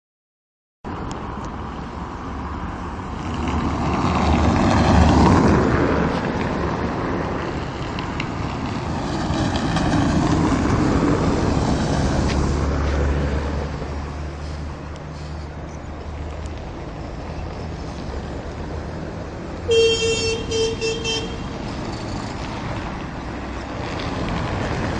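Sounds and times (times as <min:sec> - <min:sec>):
cars driving past: 0:00.9 - 0:24.9.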